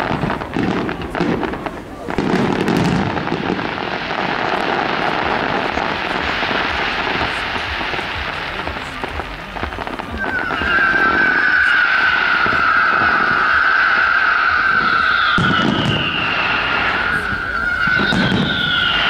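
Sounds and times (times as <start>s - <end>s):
fireworks crackling and hissing: 0.0s - 19.0s
high firework whistle: 0.0s - 19.0s.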